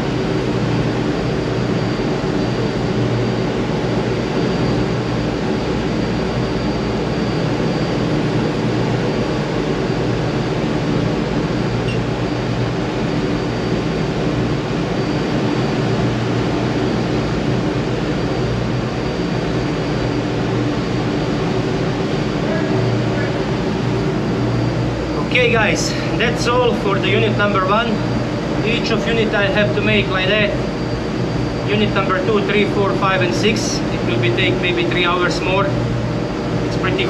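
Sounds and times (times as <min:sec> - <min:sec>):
engine room machinery drone: 0:00.0 - 0:37.0
faint high whine: 0:00.0 - 0:37.0.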